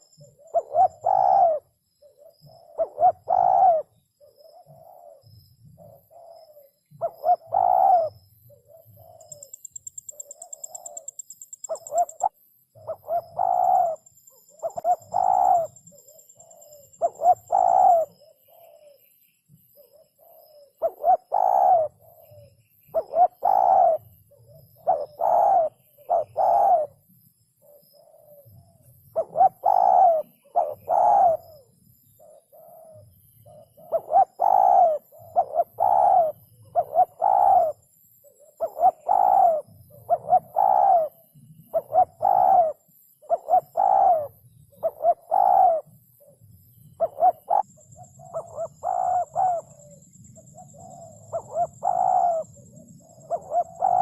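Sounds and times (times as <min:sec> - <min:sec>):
dove cooing: 0:00.0 - 0:19.1, 0:19.7 - 0:27.0, 0:27.6 - 0:54.0.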